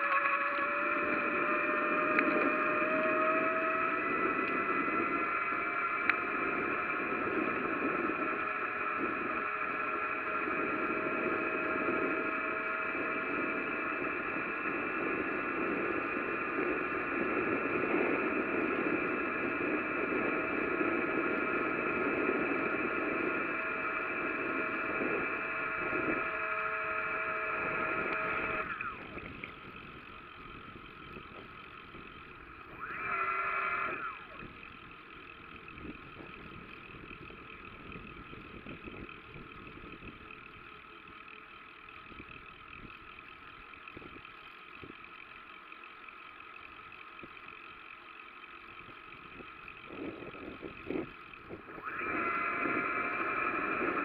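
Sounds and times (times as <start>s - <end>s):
bicycle tyres humming on road: 0.0s - 54.0s.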